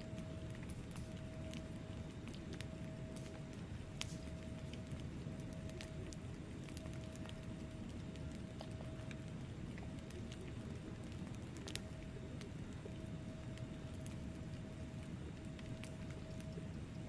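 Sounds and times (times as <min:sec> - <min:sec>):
logs crackling and popping: 0:00.0 - 0:17.0
wood fire burning: 0:00.0 - 0:17.0.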